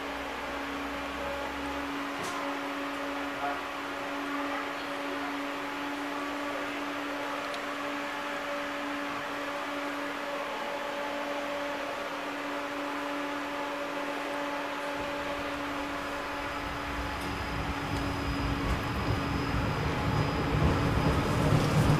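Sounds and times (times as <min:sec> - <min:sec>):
faint high whine: 0:00.0 - 0:21.9
low rumble of tram moving: 0:00.0 - 0:21.9
tram electrical hum: 0:00.0 - 0:21.9.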